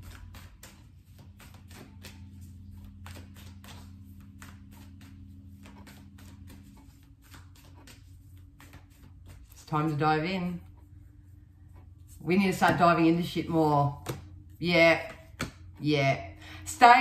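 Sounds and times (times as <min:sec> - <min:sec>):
cards being shuffled: 0:00.0 - 0:11.1, 0:11.7 - 0:15.8
low steady hum: 0:00.0 - 0:17.0.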